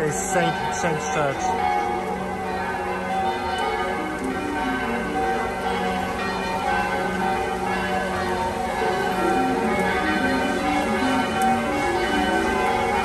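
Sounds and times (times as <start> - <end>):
church bells pealing: 0.0 - 13.0.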